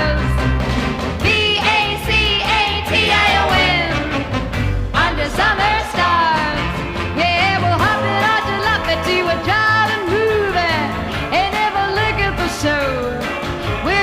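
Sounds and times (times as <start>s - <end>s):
upbeat song with sung melody: 0.0s - 14.0s.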